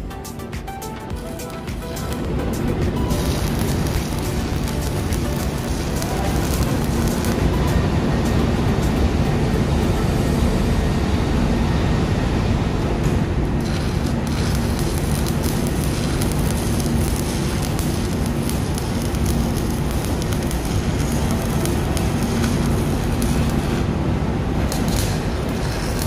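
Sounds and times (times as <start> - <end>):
arc welding crackling: 0.0 - 10.1, 13.6 - 26.0
low machinery hum: 1.1 - 26.0.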